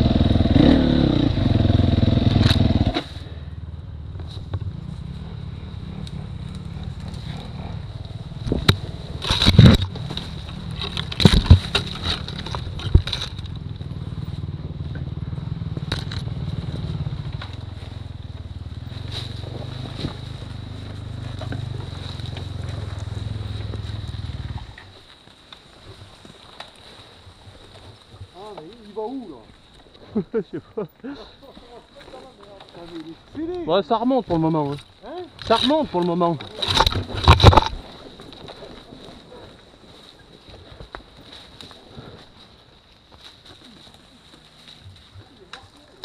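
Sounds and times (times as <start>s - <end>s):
branches cracking and scraping: 0.0s - 3.4s, 4.1s - 46.0s
dirt bike engine running: 0.0s - 46.0s.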